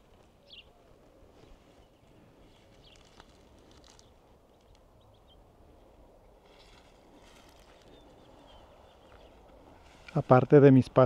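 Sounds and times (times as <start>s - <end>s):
faint footsteps on ground: 0.0s - 4.9s, 6.4s - 11.0s.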